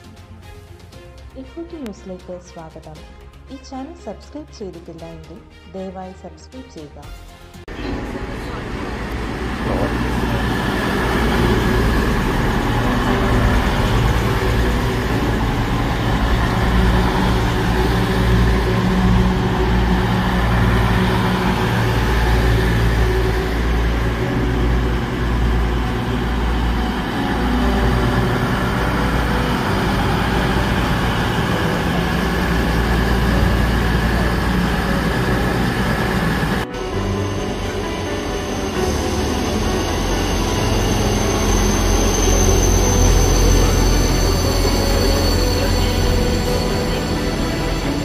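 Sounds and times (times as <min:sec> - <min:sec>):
diesel train engines rumbling: 0:07.7 - 0:48.0.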